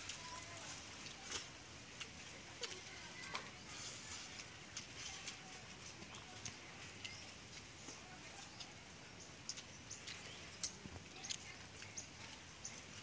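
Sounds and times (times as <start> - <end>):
chewing and lip-smacking: 1.0 - 13.0.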